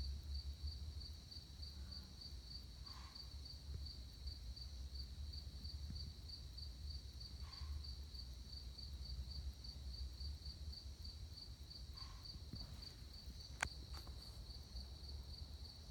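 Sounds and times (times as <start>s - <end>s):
night insects chirping: 0.0s - 15.9s.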